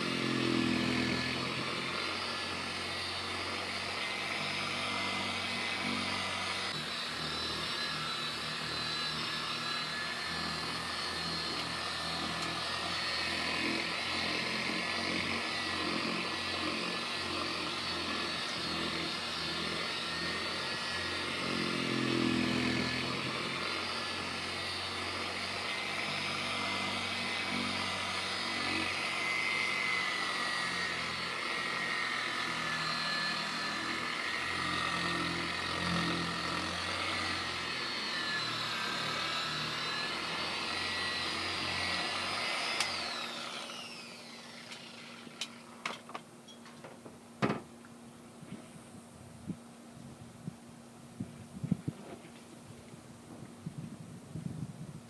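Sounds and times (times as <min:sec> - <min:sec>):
electric buffer motor whine: 0:00.0 - 0:46.6.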